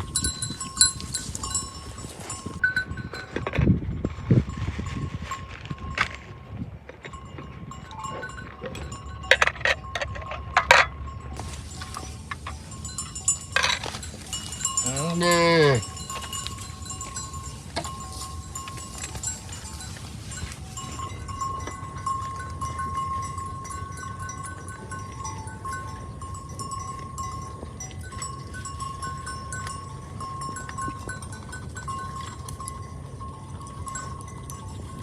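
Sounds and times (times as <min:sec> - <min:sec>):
cowbells clinking: 0:00.0 - 0:35.0.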